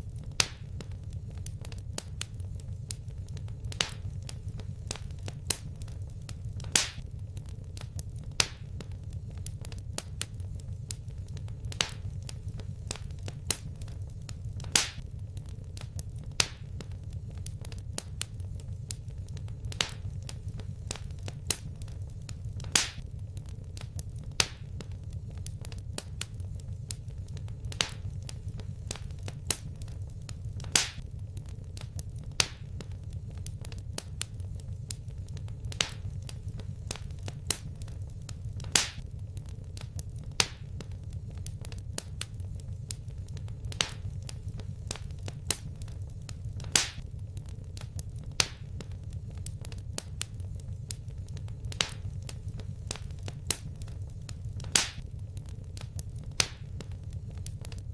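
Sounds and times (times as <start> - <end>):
low rumble of fire: 0.0 - 57.9
wood fire crackling: 0.0 - 57.9.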